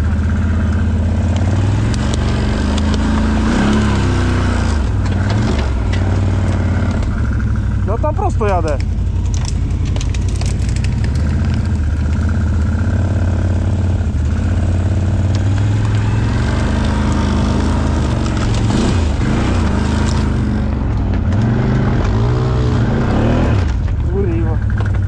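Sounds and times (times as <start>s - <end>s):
atv engine revving: 0.0s - 25.0s.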